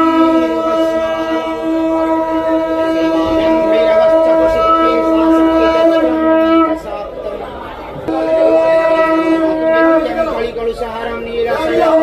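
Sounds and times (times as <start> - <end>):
conch shell blown in long note: 0.0 - 7.2, 8.0 - 12.0.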